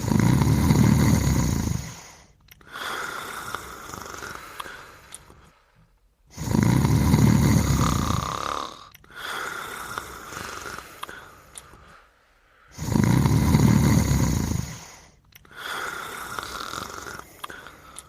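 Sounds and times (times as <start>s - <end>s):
cartoon snoring: 0.0s - 5.0s, 6.3s - 11.3s, 12.7s - 18.0s.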